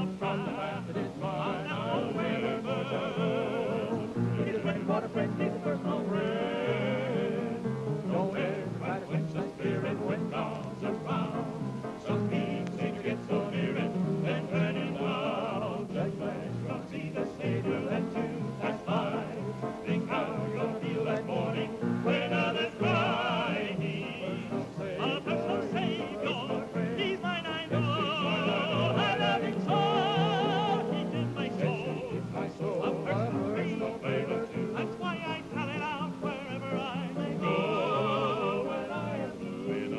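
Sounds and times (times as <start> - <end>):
gospel singing with vibrato: 0.0 - 39.9.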